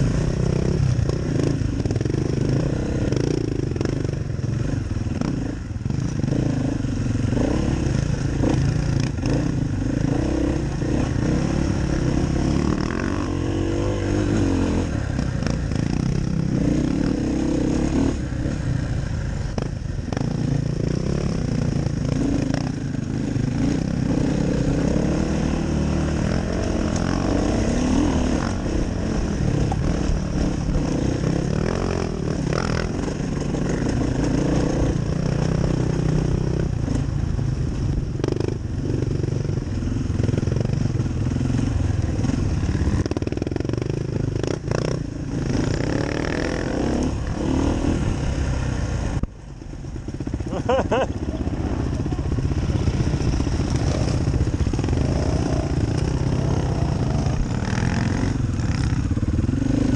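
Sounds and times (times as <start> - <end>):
dirt bike engine revving: 0.0 - 37.1, 38.2 - 49.2, 50.1 - 59.9.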